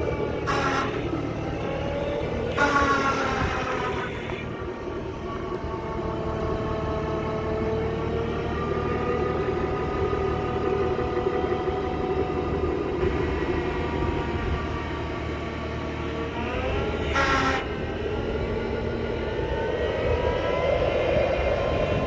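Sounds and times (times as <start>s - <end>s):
engine rumble: 0.0s - 22.0s
hydraulic mower whine: 0.0s - 22.0s.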